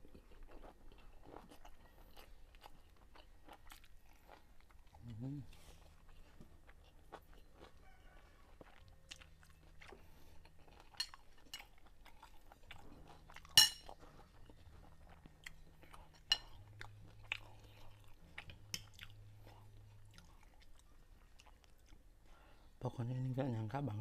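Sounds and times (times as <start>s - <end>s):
man chewing food: 0.0s - 22.8s
faint low steady hum: 0.0s - 24.0s.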